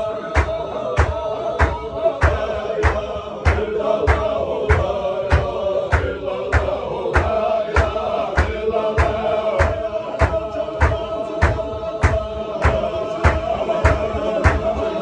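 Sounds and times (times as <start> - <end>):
men chanting in drone: 0.0 - 15.0
hands clapping: 0.3 - 15.0.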